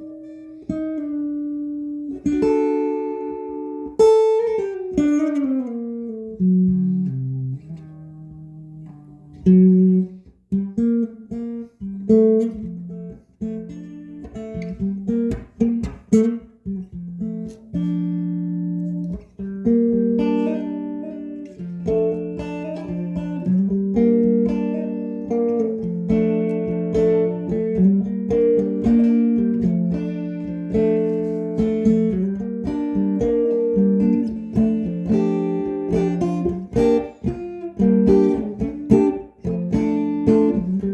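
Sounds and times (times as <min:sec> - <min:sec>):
electric guitar notes and chords: 0:00.0 - 0:40.9.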